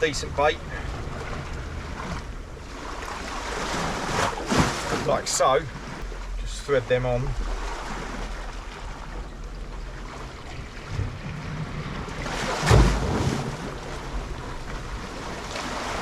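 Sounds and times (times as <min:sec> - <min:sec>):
calm sea washing at shore: 0:00.0 - 0:16.0.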